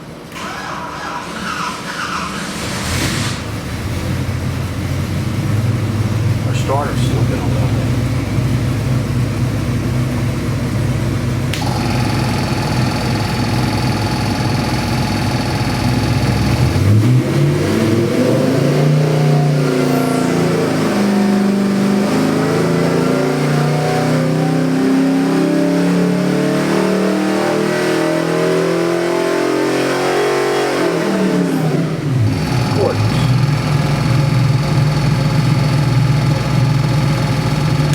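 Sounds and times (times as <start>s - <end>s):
engine idling and revving: 0.0s - 37.9s.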